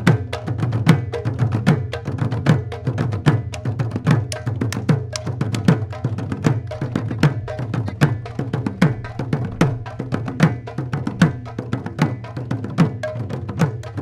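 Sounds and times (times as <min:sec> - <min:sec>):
hand drums playing fast rhythm: 0:00.0 - 0:14.0.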